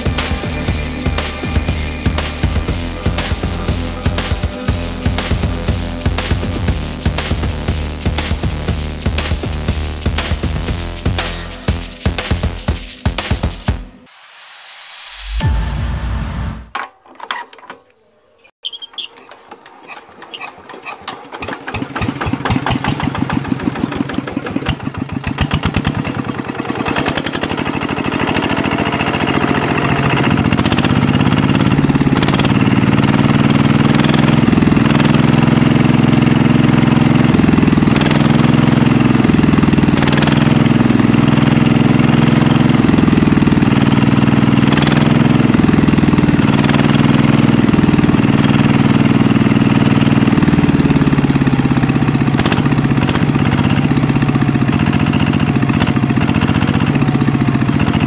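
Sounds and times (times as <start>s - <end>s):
engine chugging: 0.0s - 13.9s, 19.2s - 58.0s.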